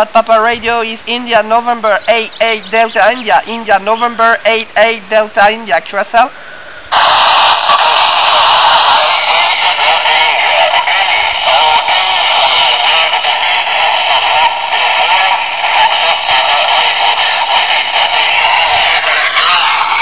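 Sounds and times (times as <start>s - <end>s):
distorted radio voice: 0.0s - 6.3s, 6.9s - 20.0s
radio hiss: 0.0s - 20.0s.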